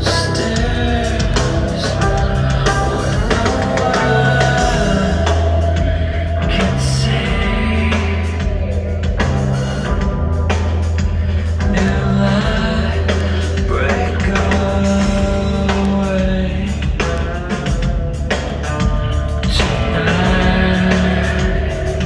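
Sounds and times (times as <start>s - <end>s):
person singing: 0.0s - 10.1s, 10.9s - 22.0s
bass notes: 0.0s - 22.0s
drums: 0.0s - 22.0s
rock band playing: 0.0s - 22.0s.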